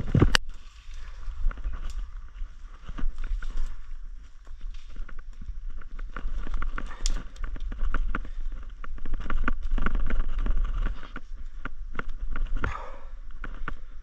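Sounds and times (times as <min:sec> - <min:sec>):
rustling twigs and dry leaves: 0:00.0 - 0:14.0
twigs cracking and snapping: 0:00.0 - 0:14.0.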